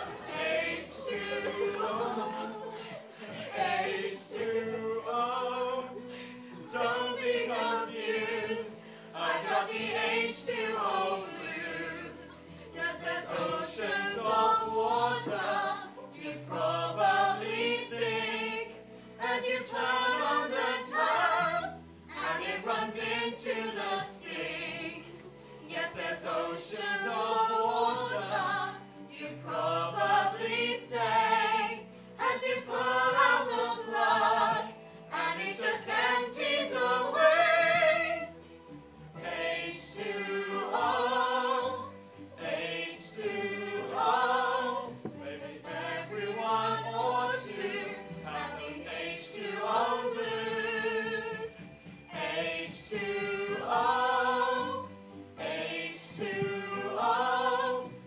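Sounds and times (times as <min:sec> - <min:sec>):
group singing in harmony: 0:00.0 - 0:58.0.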